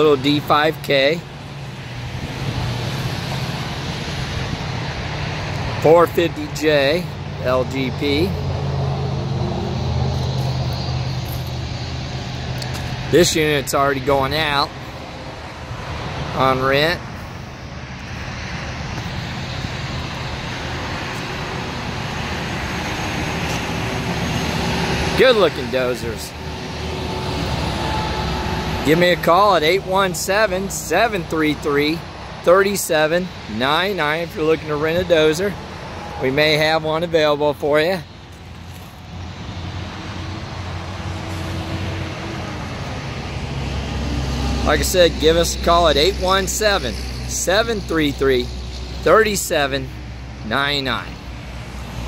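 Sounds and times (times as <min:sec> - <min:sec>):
traffic rumble: 0:00.0 - 0:52.0.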